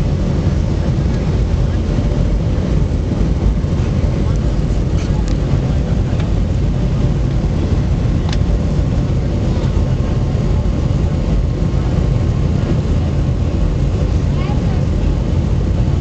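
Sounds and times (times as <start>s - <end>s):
jet airliner cabin roar: 0.0s - 16.0s.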